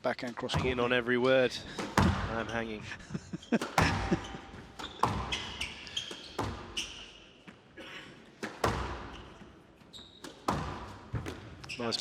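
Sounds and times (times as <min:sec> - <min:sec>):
shoes squeaking on court floor: 0:00.2 - 0:12.0
squash ball hitting racket and walls: 0:00.2 - 0:12.0.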